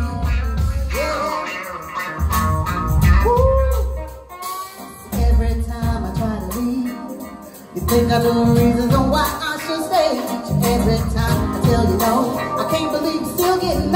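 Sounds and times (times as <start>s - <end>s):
soul band playing: 0.0s - 13.9s.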